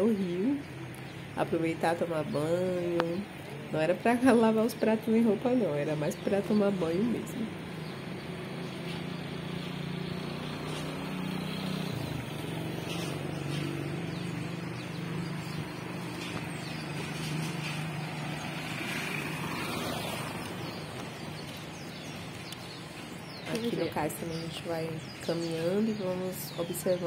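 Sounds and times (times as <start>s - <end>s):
traffic noise: 0.0s - 27.0s
vehicle engine humming: 0.0s - 27.0s.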